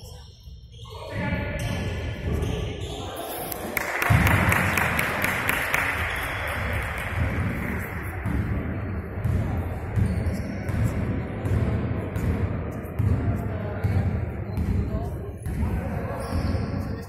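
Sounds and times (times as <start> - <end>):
players' voices: 0.0 - 17.0.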